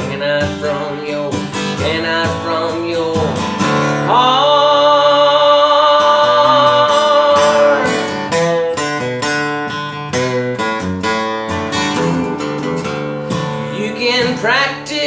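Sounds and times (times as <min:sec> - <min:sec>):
country song on acoustic guitar: 0:00.0 - 0:15.0.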